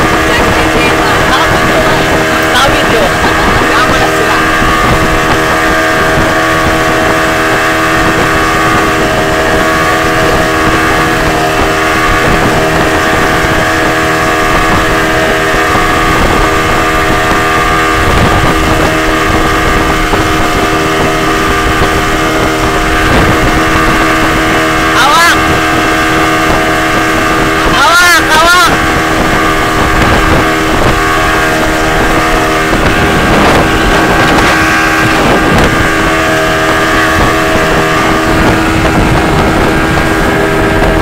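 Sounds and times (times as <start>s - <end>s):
motorboat engine drone: 0.0s - 41.0s
water noise: 0.0s - 41.0s
wind noise: 0.0s - 41.0s.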